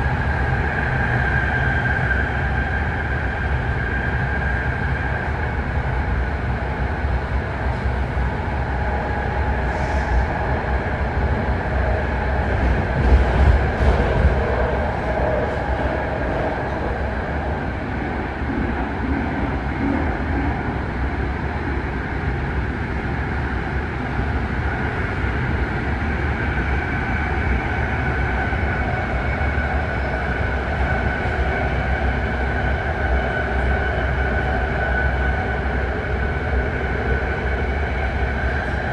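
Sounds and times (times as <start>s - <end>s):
train rumble and rail noise: 0.0s - 38.9s.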